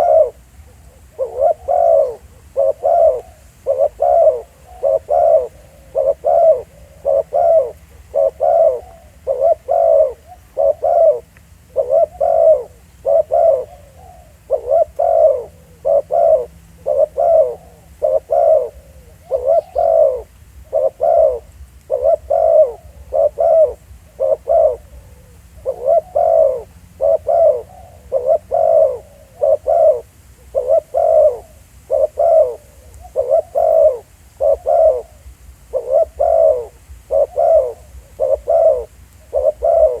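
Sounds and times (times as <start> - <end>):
doves cooing: 0.0 - 40.0.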